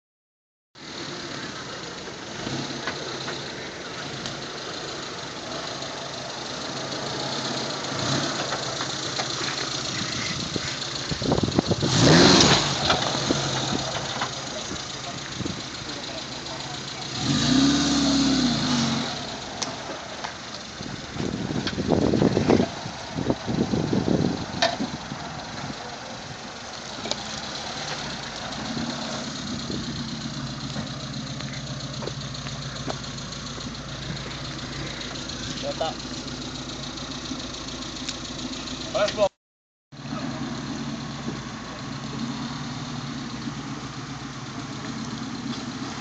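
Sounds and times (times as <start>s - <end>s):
car engine running at low revs: 0.8s - 39.3s, 39.9s - 46.0s.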